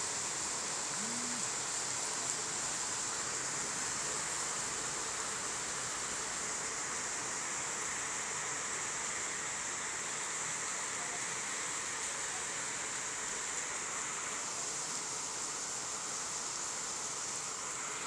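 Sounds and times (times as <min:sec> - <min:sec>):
rain falling steadily: 0:00.0 - 0:18.0.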